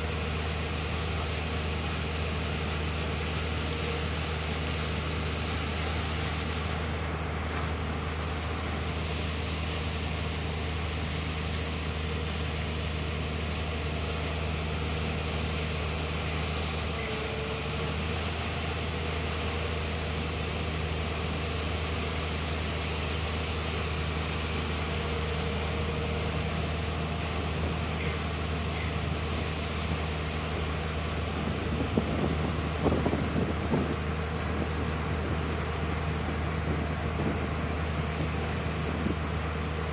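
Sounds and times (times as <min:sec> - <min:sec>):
diesel engine and pump droning: 0:00.0 - 0:39.9.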